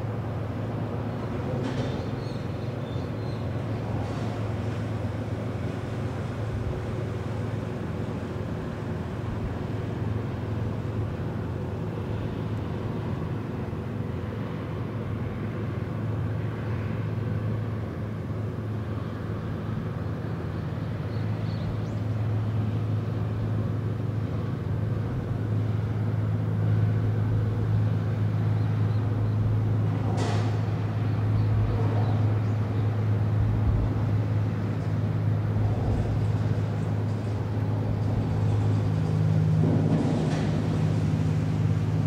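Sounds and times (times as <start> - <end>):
ship engine drone: 0.0 - 42.0.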